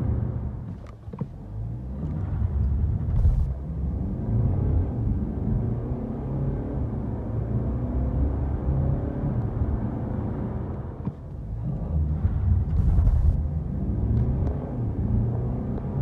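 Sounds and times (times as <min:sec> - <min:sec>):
diesel car engine accelerating: 0:00.0 - 0:16.0.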